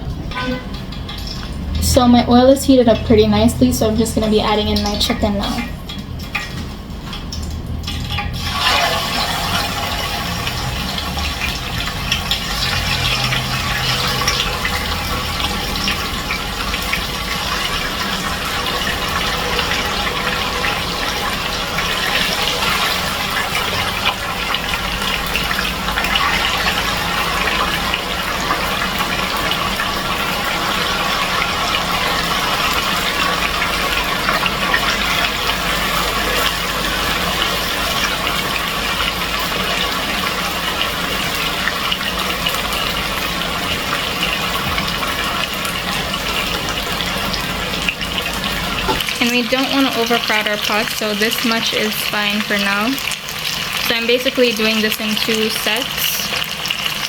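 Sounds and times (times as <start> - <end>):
chicken frying in hot oil: 0.0 - 57.0.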